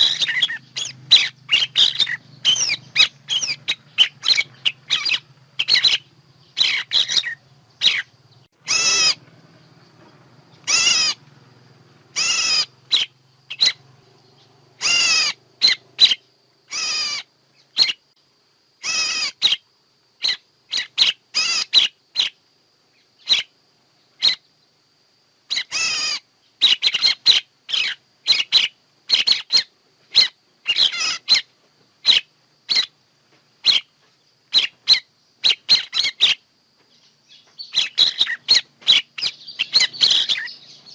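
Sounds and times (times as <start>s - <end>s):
harsh bird calls: 0.0s - 18.1s, 18.8s - 22.4s, 23.0s - 24.6s, 25.5s - 33.0s, 33.6s - 40.9s
faint low hum: 0.0s - 40.9s.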